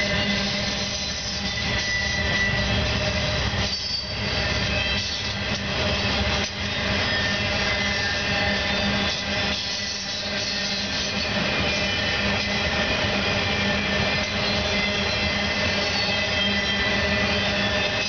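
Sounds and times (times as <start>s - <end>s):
freight train wheels on rails: 0.0s - 18.0s.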